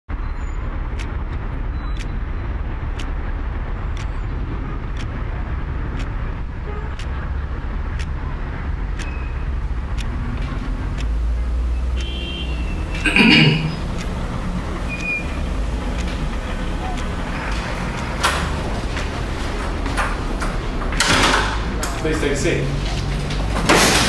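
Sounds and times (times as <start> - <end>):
wall clock ticking: 0.7 - 24.0.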